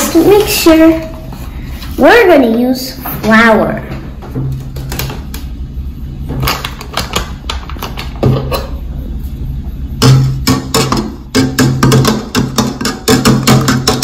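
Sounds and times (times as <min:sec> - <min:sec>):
faint low hum: 0:00.0 - 0:13.8.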